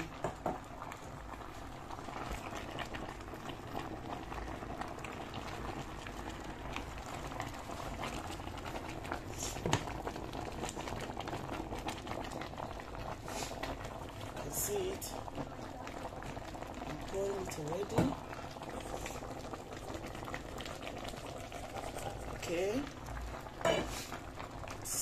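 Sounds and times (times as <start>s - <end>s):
stock bubbling at a boil: 0.0s - 25.0s.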